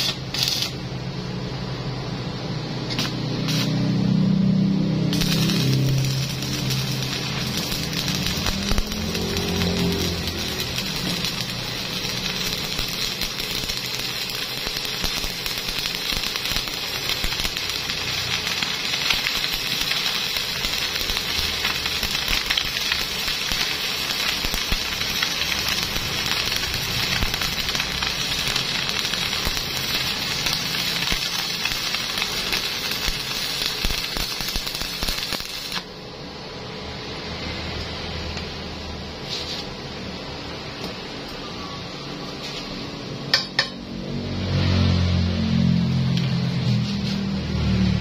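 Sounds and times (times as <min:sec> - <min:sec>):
welding arc crackling and sizzling: 0:00.0 - 0:36.0, 0:42.4 - 0:48.0.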